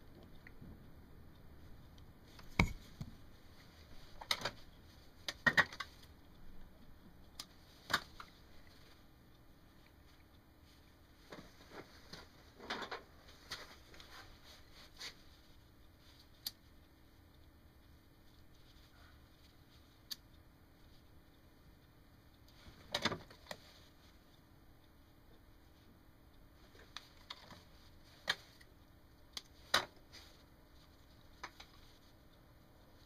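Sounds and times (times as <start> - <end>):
faint steady hum: 0.0 - 33.0
small clicks and taps of handling wires: 1.9 - 17.5, 18.2 - 24.5, 26.6 - 32.4.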